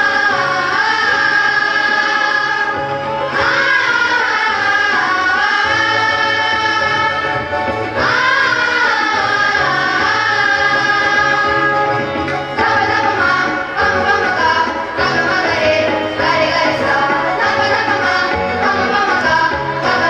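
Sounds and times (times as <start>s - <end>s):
music with long held notes: 0.0s - 20.0s.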